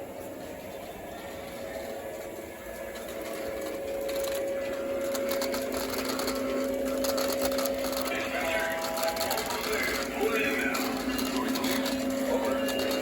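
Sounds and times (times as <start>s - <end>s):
electric motor whine: 0.0s - 13.0s
lower motor tone: 0.0s - 13.0s
wheels clattering over rails: 0.0s - 13.0s.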